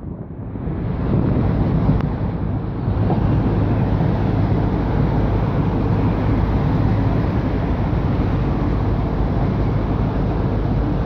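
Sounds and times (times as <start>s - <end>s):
wind on microphone: 0.0s - 11.0s
train carriages rumbling: 1.0s - 11.0s.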